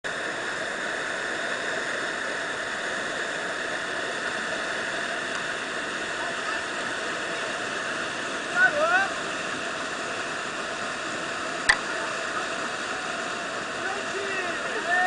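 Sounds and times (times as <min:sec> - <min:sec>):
river rapids rushing: 0:00.1 - 0:15.0.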